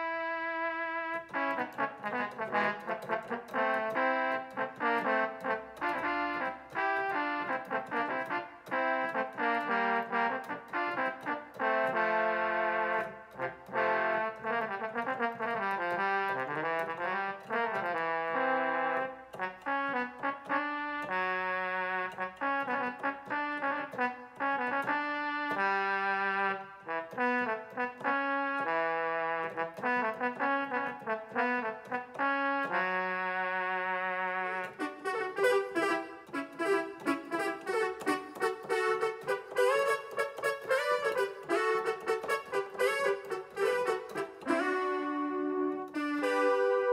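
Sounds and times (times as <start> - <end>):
synthesizer melody over chords: 0.0 - 46.9.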